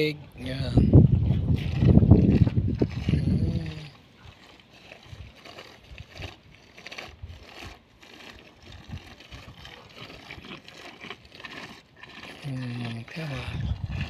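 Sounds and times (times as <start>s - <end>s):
camels slurping water: 0.0s - 14.0s.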